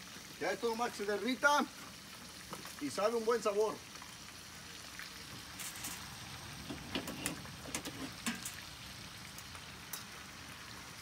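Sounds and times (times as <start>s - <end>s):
fish sizzling in a skillet: 0.0s - 11.0s.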